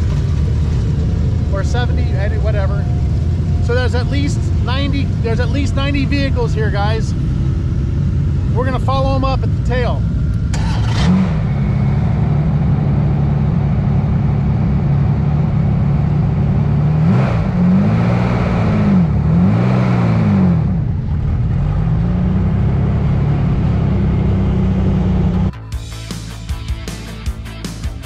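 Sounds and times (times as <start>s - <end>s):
buggy engine running and revving: 0.0s - 28.0s.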